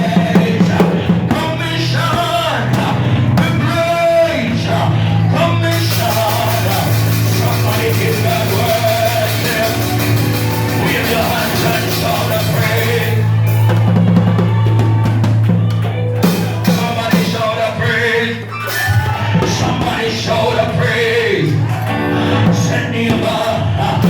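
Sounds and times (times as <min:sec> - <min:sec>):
bass line: 0:00.0 - 0:24.0
drum kit: 0:00.0 - 0:24.0
live band music: 0:00.0 - 0:24.0
person singing: 0:00.0 - 0:24.0.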